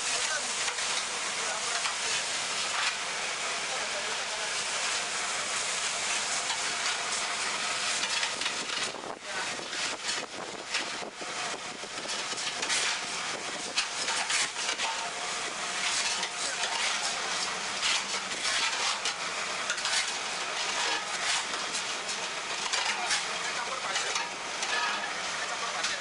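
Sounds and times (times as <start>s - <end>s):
hoe scraping gritty mix on concrete: 0.0s - 26.0s.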